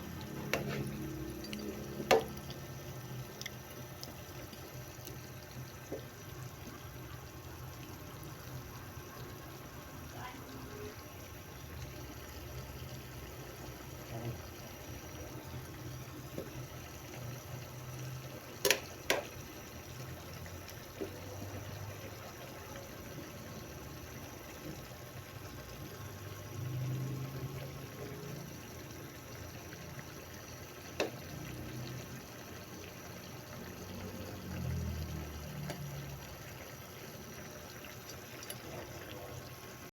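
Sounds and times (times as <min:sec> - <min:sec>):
water running in kitchen: 0:00.0 - 0:39.9.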